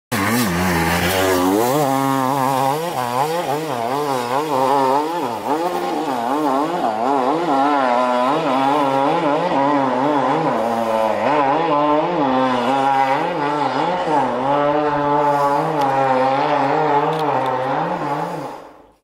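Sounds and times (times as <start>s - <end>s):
motorcycle engine revving: 0.1s - 19.0s.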